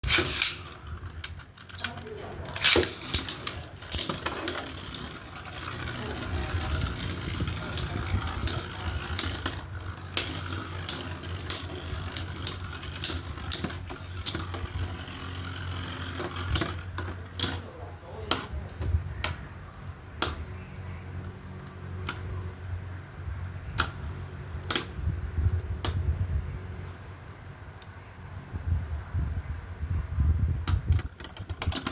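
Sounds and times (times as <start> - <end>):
steady low hum: 0.0 - 31.1.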